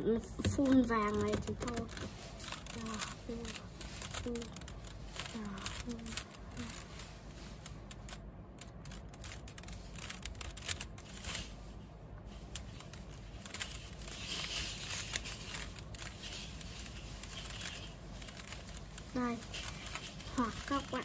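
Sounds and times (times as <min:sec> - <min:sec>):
puzzle cube layers clicking: 0:00.3 - 0:11.5, 0:12.4 - 0:21.0.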